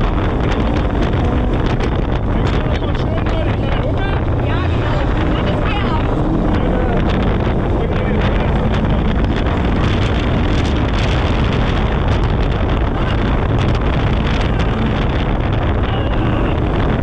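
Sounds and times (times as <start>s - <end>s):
vehicle engine noise: 0.0s - 17.0s
wind buffeting microphone: 0.0s - 17.0s.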